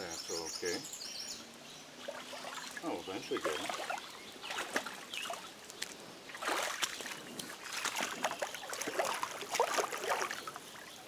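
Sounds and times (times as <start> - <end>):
stream water splashing: 2.0 - 11.0.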